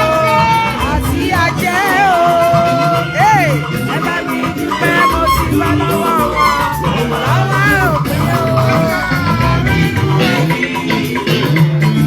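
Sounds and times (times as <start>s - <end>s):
person singing: 0.0s - 10.9s
band playing danceable beat: 0.1s - 10.7s.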